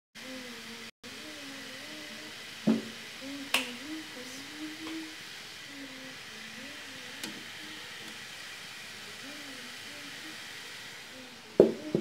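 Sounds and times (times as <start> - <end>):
steamer pot hissing: 0.2 - 12.0.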